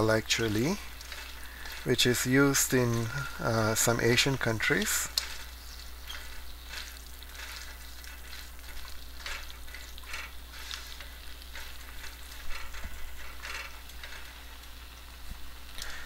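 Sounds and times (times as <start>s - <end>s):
vegetables sizzling in oil: 0.0s - 16.0s
spatula scraping pan: 0.1s - 14.8s.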